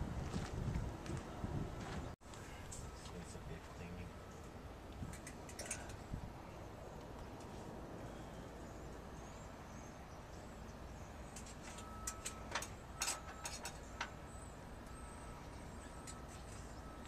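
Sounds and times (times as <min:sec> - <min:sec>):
low steady background noise: 0:01.1 - 0:17.0.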